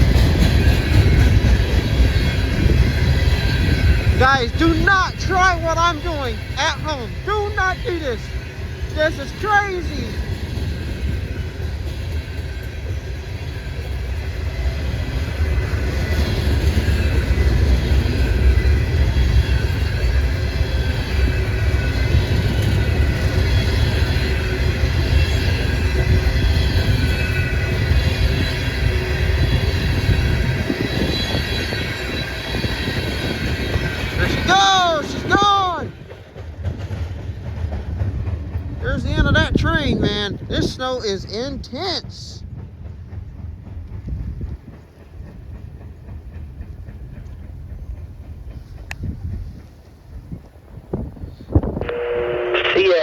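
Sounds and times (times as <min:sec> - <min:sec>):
train wheels rumbling on rail: 0:00.0 - 0:52.2.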